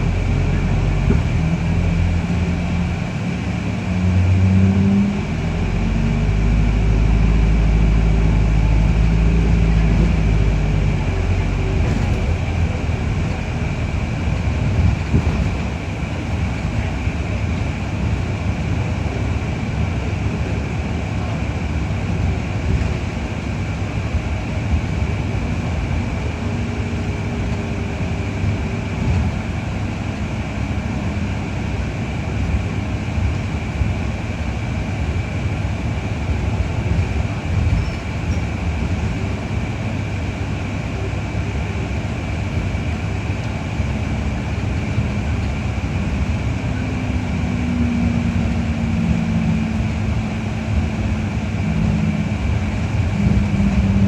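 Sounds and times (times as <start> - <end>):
deep bus engine drone: 0.0 - 54.0
road and body rumble: 0.0 - 54.0.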